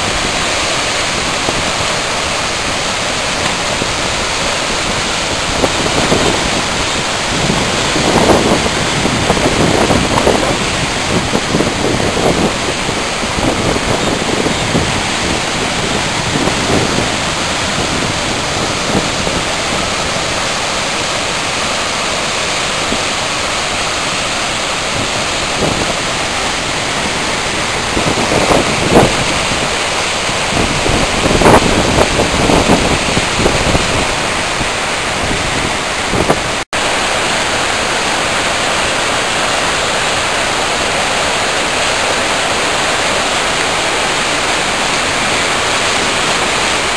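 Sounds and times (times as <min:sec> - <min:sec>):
water rushing over waterfall: 0:00.0 - 0:46.9.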